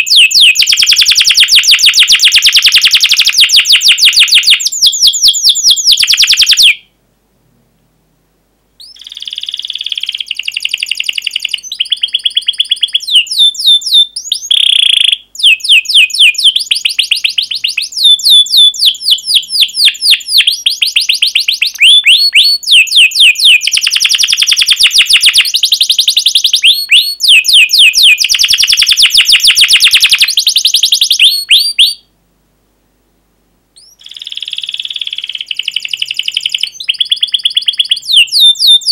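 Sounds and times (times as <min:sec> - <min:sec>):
canary singing: 0:00.0 - 0:06.9, 0:08.8 - 0:32.1, 0:33.8 - 0:38.9.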